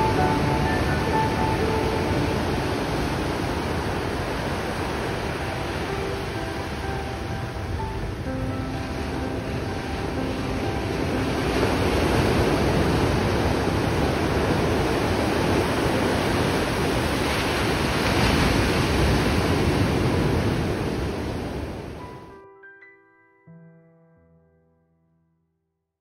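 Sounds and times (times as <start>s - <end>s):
ocean waves breaking on beach: 0.0s - 22.3s.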